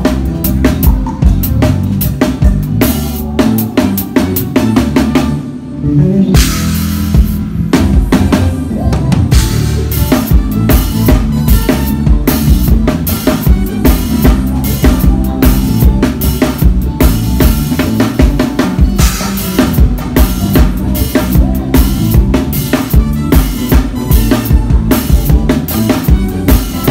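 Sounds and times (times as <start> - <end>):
bass line: 0.0 - 26.9
drum kit playing groove: 0.0 - 26.9.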